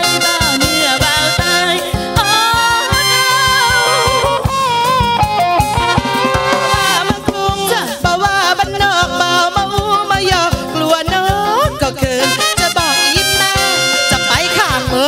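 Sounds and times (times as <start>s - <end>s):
live band playing: 0.0s - 15.0s
steady drum beat: 0.0s - 15.0s
woman singing into microphone: 0.0s - 15.0s.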